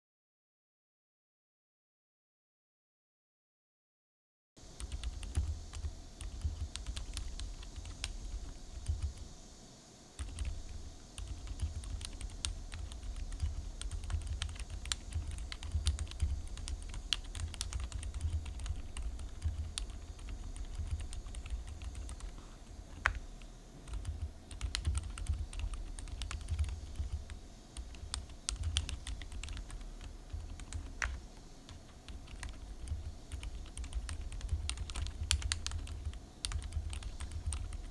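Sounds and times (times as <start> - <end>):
mechanical keyboard typing: 4.8 - 9.3, 10.2 - 22.4, 23.0 - 37.9.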